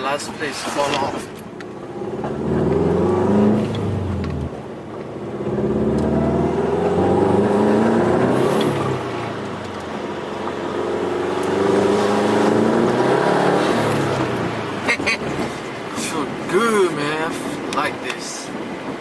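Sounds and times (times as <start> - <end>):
car engine accelerating: 0.9 - 16.6.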